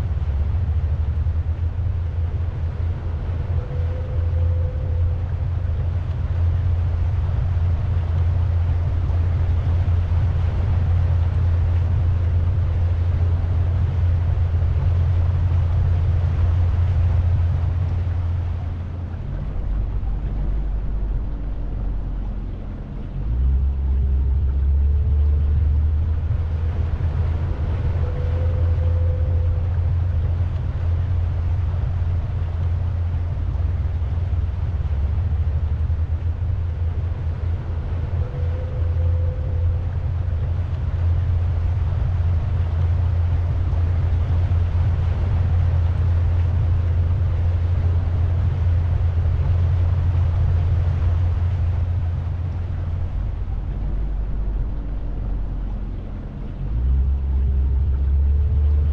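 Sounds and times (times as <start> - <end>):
boat motor rumble: 0.0 - 58.9.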